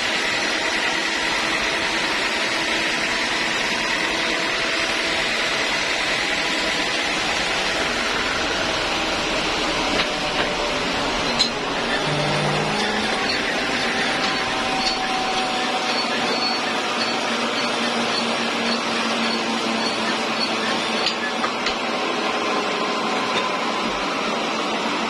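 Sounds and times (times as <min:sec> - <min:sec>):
sawmill machinery running: 0:00.0 - 0:25.0.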